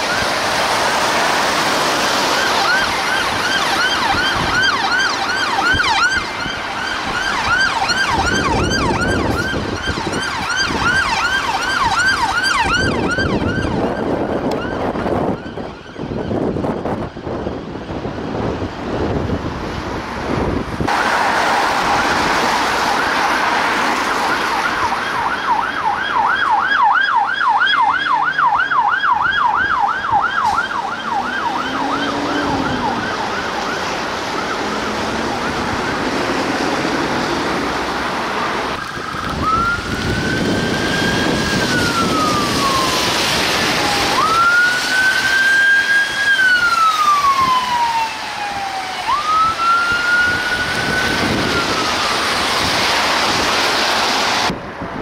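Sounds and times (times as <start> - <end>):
siren wail: 0.0 - 19.5, 20.8 - 54.6
wind and traffic hiss: 0.0 - 55.0
siren warbling yelp: 2.2 - 17.6, 21.5 - 37.5, 38.7 - 53.8.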